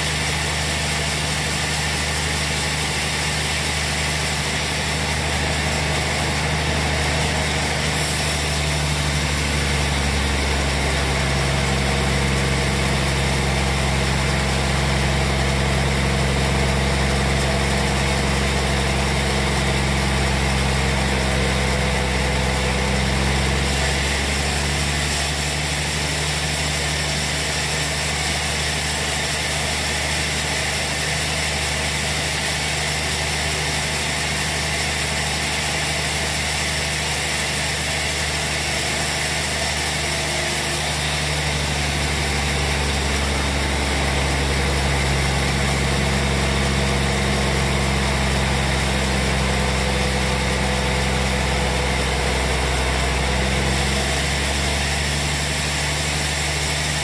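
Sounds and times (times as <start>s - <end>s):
motor hum: 0.0s - 31.2s, 32.9s - 57.0s
band saw cutting log: 0.0s - 57.0s.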